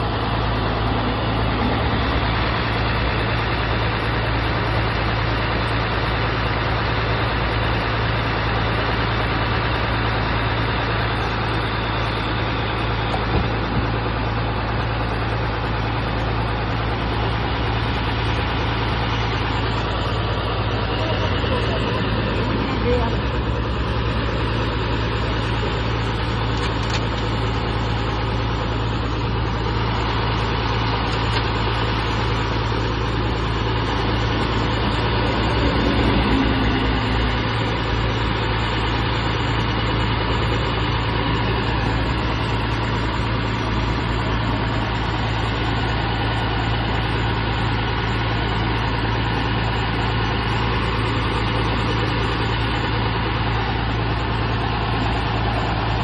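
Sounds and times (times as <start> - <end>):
diesel bus engine running: 0.0 - 56.0.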